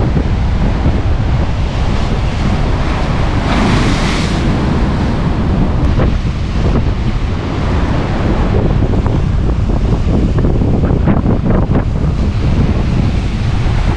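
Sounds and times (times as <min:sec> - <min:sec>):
surf breaking on rocks: 0:00.0 - 0:13.9
wind buffeting microphone: 0:00.0 - 0:13.9.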